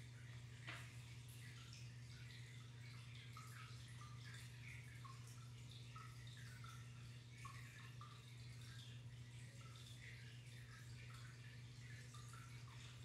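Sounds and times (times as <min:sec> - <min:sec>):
steady low hum: 0:00.0 - 0:13.0
water trickling and bubbling: 0:00.0 - 0:13.0.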